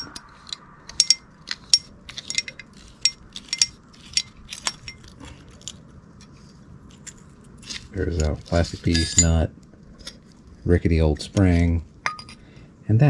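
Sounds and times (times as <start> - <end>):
small metal parts clinking: 0.0 - 10.6, 11.4 - 12.6.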